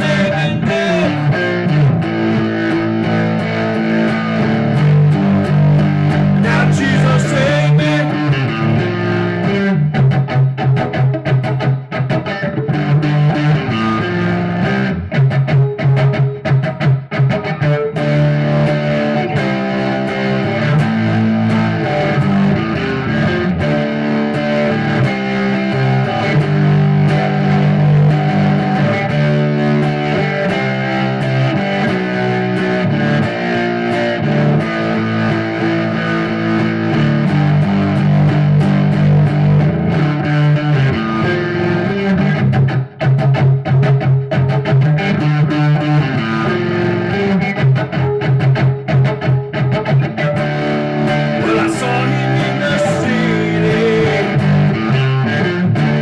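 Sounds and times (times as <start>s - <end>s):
backing track with bass line: 0.0s - 56.0s
distorted electric guitar: 0.0s - 56.0s.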